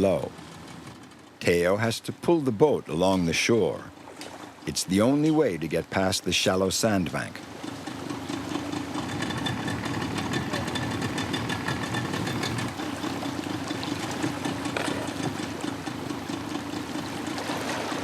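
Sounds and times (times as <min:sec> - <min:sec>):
outboard motor running: 0:00.0 - 0:05.2, 0:07.1 - 0:18.0.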